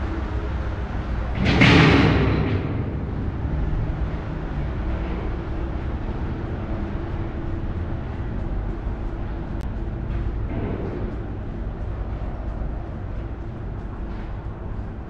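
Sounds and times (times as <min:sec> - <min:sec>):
low vehicle rumble in tunnel: 0:00.0 - 0:15.0.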